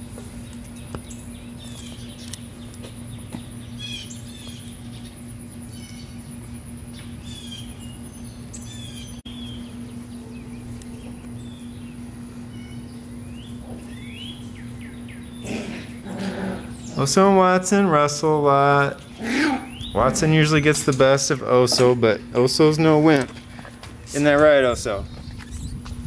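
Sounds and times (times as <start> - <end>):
songbirds chirping: 0.0 - 26.0
steady low hum: 0.0 - 26.0.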